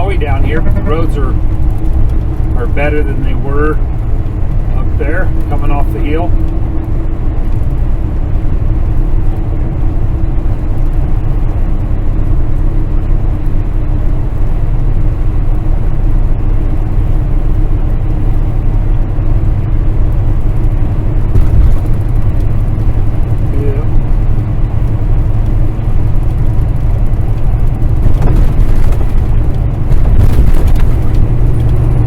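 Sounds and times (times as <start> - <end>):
road noise: 0.0 - 32.0
truck engine drone: 0.0 - 32.0.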